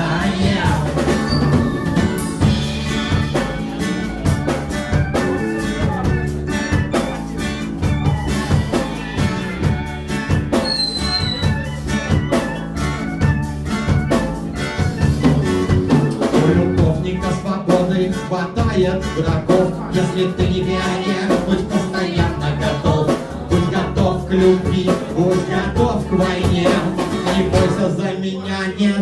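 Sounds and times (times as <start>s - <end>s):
person singing: 0.0s - 10.3s, 14.6s - 29.0s
live rock band playing: 0.0s - 28.1s.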